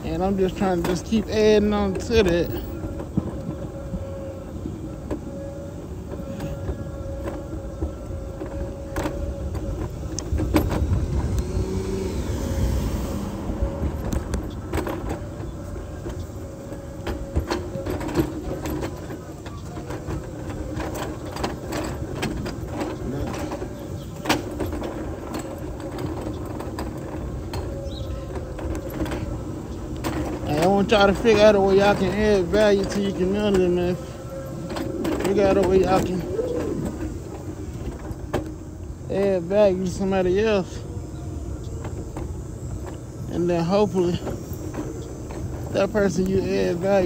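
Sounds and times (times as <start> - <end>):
wheelchair motor whine: 0.0 - 47.0
wheels rumbling on concrete: 0.0 - 47.0.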